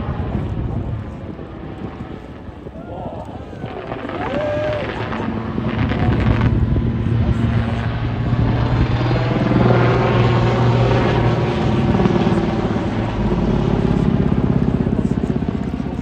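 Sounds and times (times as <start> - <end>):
helicopter rotor chopping: 0.0 - 16.0
low turbine drone: 0.0 - 16.0.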